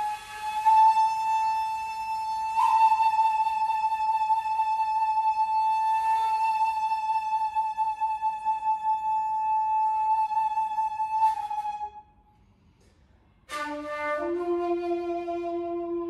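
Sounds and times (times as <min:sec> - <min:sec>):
bamboo flute playing: 0:00.0 - 0:12.2, 0:13.5 - 0:16.0.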